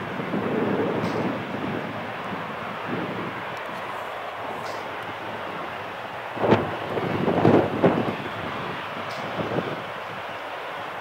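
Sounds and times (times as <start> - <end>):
jet engine rumble: 0.0 - 11.0
wind buffeting microphone: 0.0 - 11.0.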